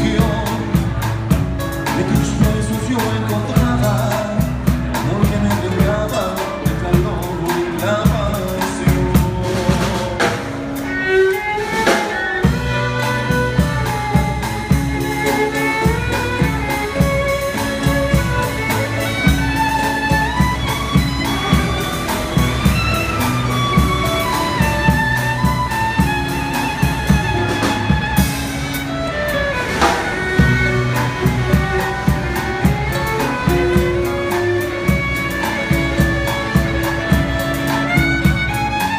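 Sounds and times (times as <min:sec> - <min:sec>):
drum kit beat: 0:00.0 - 0:38.9
violin melody: 0:00.0 - 0:38.9.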